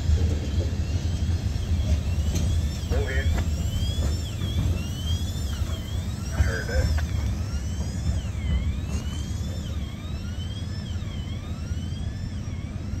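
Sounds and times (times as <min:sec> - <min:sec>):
freight train cars rumbling: 0:00.0 - 0:13.0
high-pitched whine: 0:00.0 - 0:13.0.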